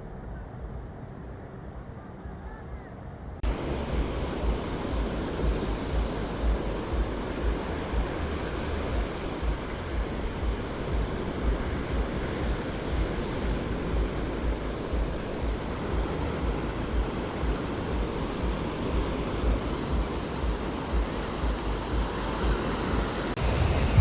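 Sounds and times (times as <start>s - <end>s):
ocean surf on sandy beach: 3.4s - 24.0s
wind buffeting microphone: 3.4s - 24.0s.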